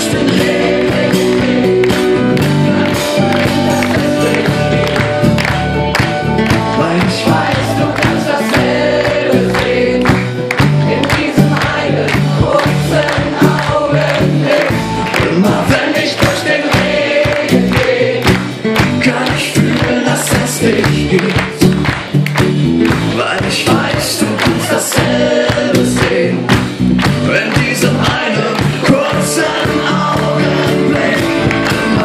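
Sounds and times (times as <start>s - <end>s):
acoustic pop-rock band playing: 0.0s - 32.0s
crowd singing along: 0.0s - 32.0s.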